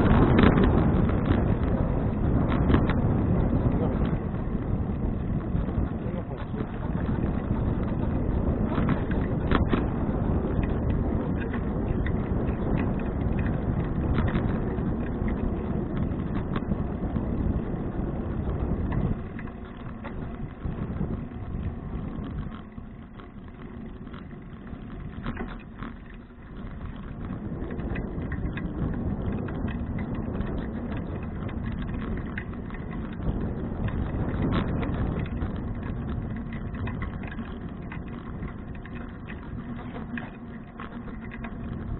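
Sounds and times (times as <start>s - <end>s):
bicycle clicks and rattles: 0.0s - 41.9s
wind and tyre noise: 0.0s - 41.9s.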